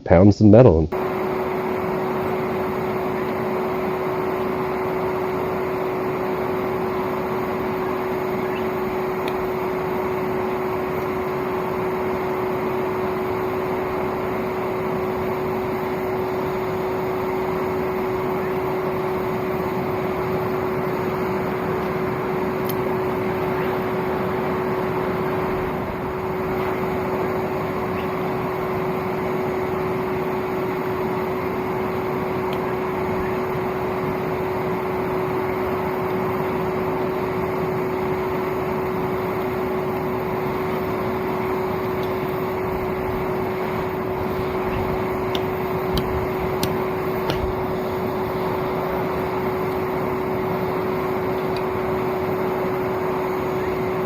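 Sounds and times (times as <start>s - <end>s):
vacuum cleaner motor whine: 0.9s - 54.0s.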